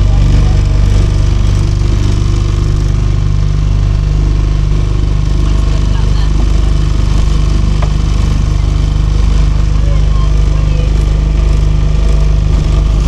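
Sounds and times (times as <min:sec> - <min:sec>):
motor boat engine running: 0:00.0 - 0:13.0.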